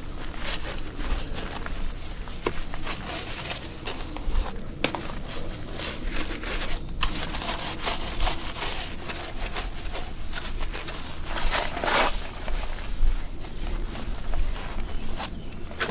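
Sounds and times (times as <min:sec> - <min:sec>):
brush scrubbing boat hull: 0:00.0 - 0:15.9.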